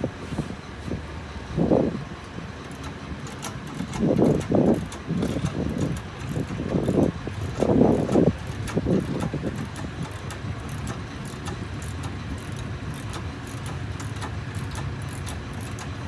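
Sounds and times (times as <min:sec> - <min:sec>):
low engine rumble: 0:00.0 - 0:16.0
scissor jack metallic clicks: 0:02.7 - 0:16.0.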